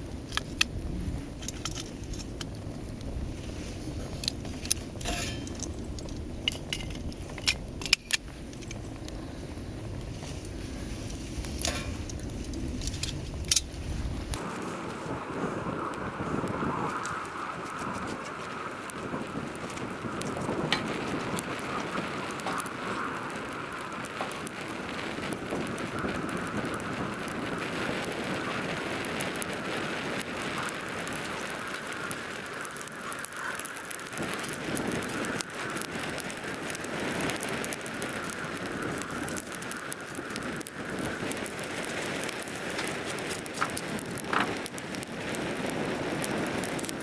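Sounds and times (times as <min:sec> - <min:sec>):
fire crackling in stove: 0:00.0 - 0:47.0.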